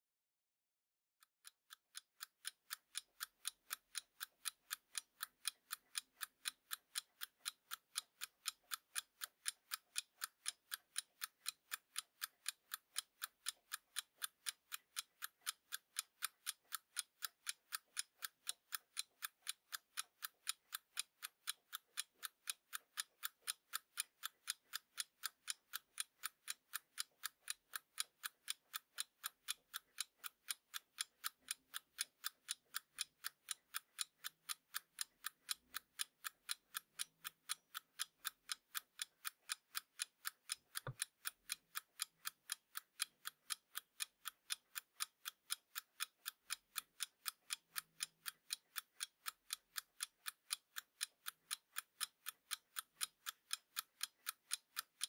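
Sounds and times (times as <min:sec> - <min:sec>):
alarm clock ticking: 0:01.3 - 0:55.0.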